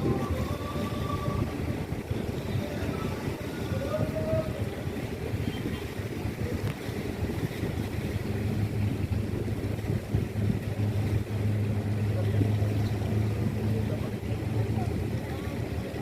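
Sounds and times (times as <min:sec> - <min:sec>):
large ship engine rumbling: 0:00.0 - 0:16.0.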